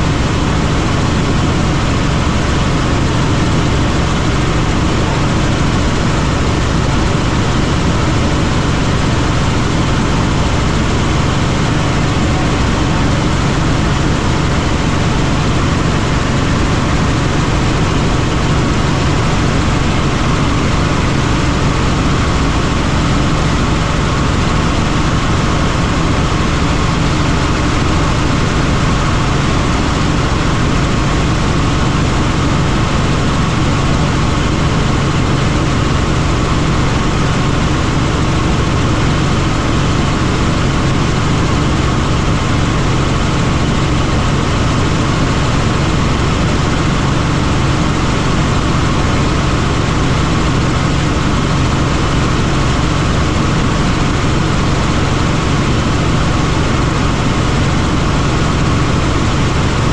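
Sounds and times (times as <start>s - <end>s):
helicopter rotor and engine drone: 0.0s - 59.9s.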